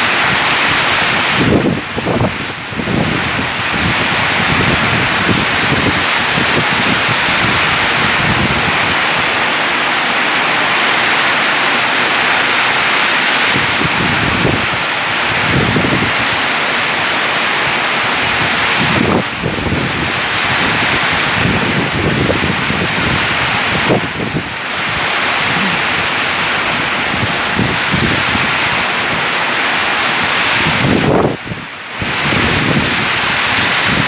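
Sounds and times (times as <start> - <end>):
heavy rain pouring: 0.0 - 34.0
wind buffeting microphone: 0.2 - 11.0, 12.4 - 16.5, 17.4 - 34.0.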